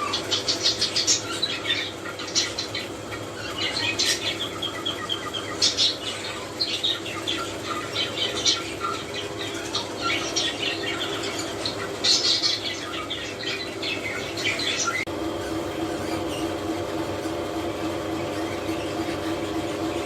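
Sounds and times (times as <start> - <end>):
budgerigars chattering: 0.0 - 16.6
steady low hum: 0.0 - 20.0.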